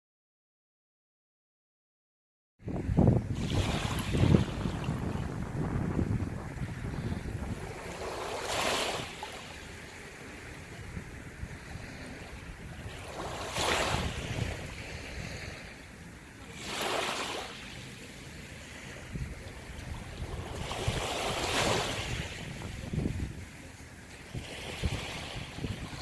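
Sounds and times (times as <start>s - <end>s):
wind rumble on microphone: 2.6s - 16.4s, 18.3s - 26.0s
sea waves washing in: 2.6s - 26.0s.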